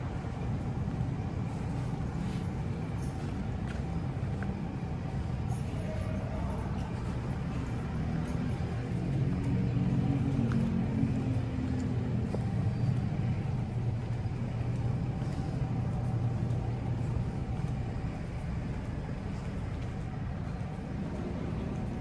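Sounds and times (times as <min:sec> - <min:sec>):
engine running: 0:00.0 - 0:22.0
traffic hum: 0:00.0 - 0:22.0.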